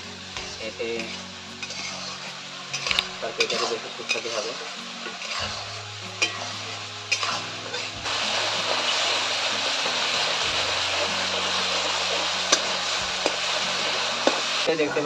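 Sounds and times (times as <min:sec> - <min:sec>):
masala sizzling in oil: 0:00.0 - 0:14.8.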